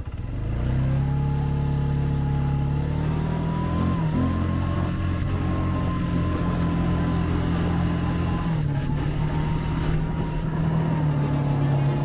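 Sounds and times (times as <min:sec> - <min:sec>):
atv engine revving: 0:00.0 - 0:12.0.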